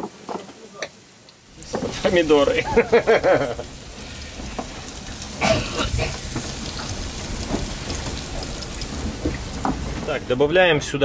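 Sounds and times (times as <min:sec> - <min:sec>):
vegetables sizzling in a frying pan: 0:00.0 - 0:10.6.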